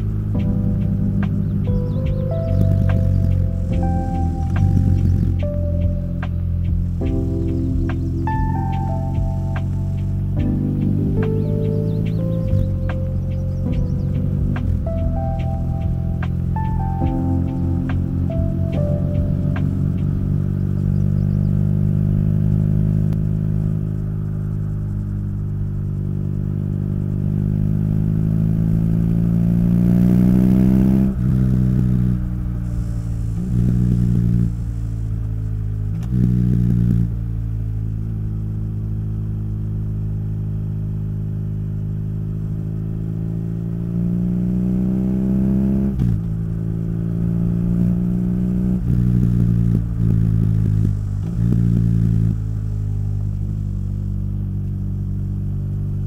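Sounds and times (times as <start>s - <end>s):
motorcycle engine revving and shifting: 0.0s - 56.0s.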